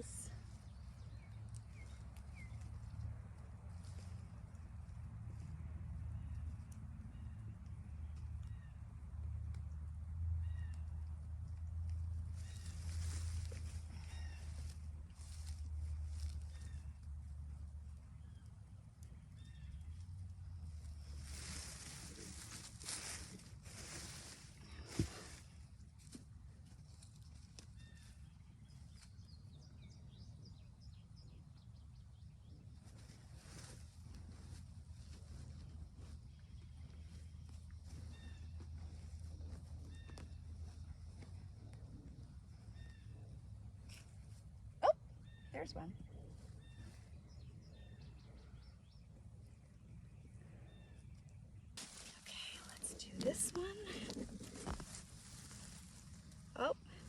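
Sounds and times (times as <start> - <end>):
low steady rumble: 0.0 - 57.0.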